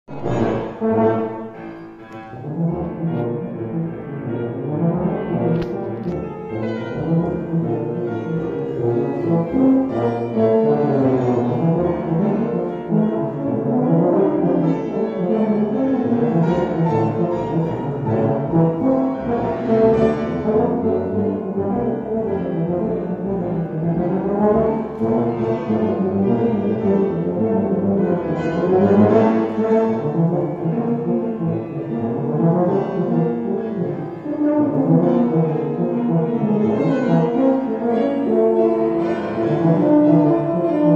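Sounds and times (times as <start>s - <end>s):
grand piano accompaniment: 0.0s - 40.9s
tuba and euphonium playing: 0.1s - 40.9s.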